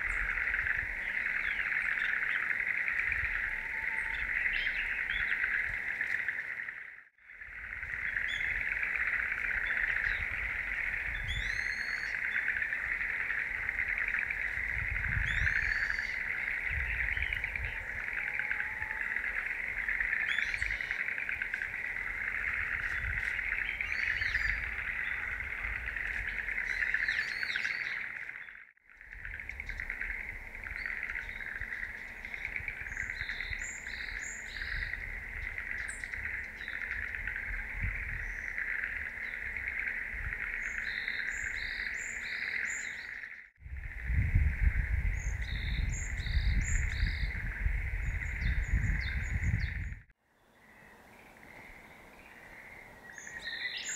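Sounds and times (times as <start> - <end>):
insects buzzing chorus: 0.0 - 49.9
songbirds calling: 0.0 - 53.9.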